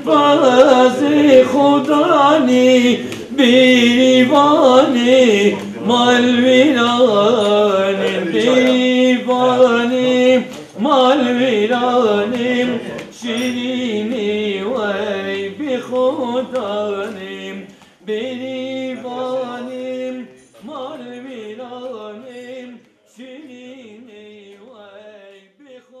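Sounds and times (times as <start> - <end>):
person singing folk song: 0.0 - 26.0.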